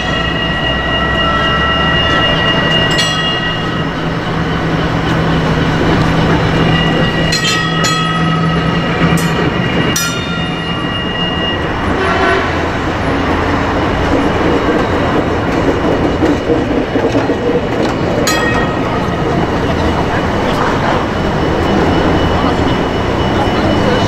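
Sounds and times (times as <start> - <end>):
tram gong bell clanging: 0.0 - 24.0
tram wheels rumbling on track: 0.0 - 24.0.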